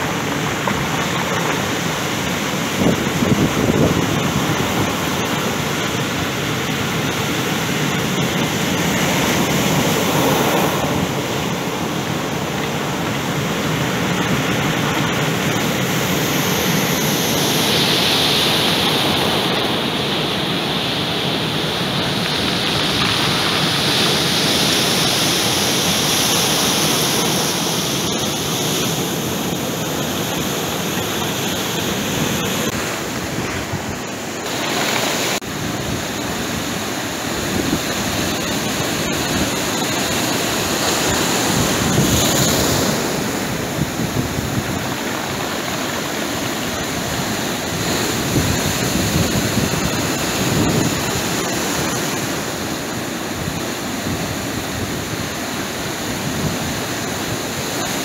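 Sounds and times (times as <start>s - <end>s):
surf breaking on pebble beach: 0.0s - 58.0s.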